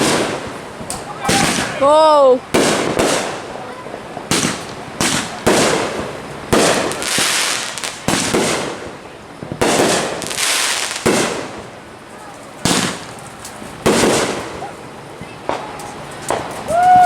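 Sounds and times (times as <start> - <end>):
fireworks exploding with hiss: 0.0 - 17.0.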